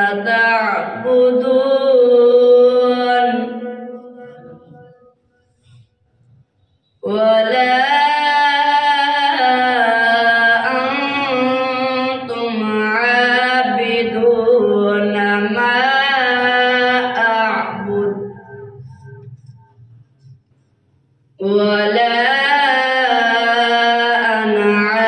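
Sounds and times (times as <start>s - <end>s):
boy reciting melodically: 0.0s - 5.0s, 7.0s - 20.3s, 21.3s - 25.0s.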